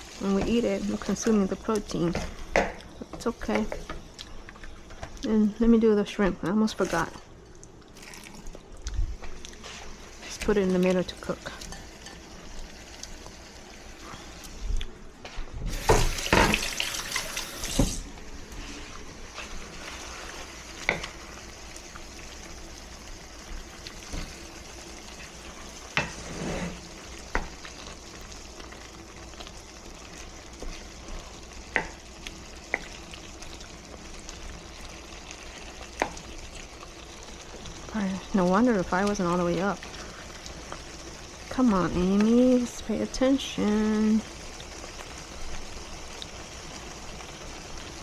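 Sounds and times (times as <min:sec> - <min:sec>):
kitchen tap running: 0:00.0 - 0:05.6, 0:06.2 - 0:14.6, 0:15.7 - 0:48.0.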